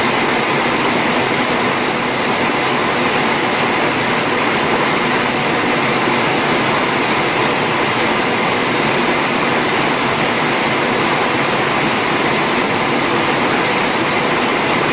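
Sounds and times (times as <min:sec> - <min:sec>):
machine running: 0:00.0 - 0:14.9.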